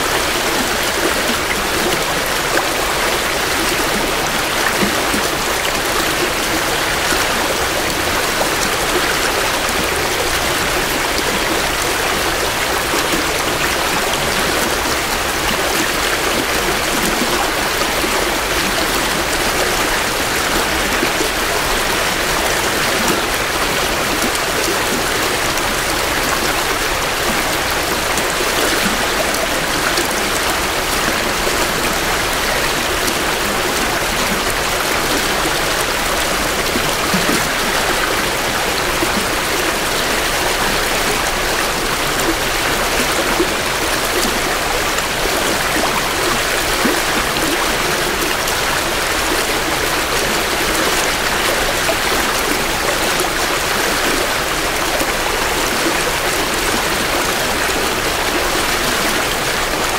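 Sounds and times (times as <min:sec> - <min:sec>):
creek water babbling over rocks: 0:00.0 - 0:59.9.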